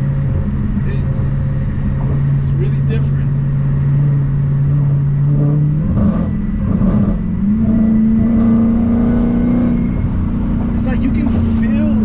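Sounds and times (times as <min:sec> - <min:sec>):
car engine drone from cabin: 0:00.0 - 0:12.0.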